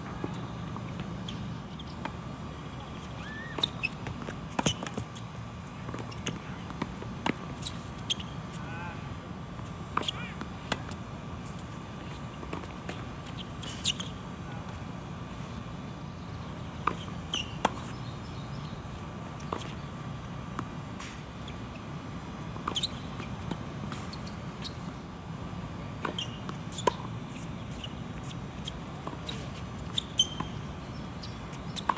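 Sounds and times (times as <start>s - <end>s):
tennis balls bouncing on court: 0.0s - 8.6s, 9.6s - 14.8s, 16.5s - 25.0s, 26.0s - 31.9s
tennis shoes squeaking on court: 0.0s - 8.6s, 9.6s - 14.4s, 16.4s - 25.0s, 26.0s - 31.9s.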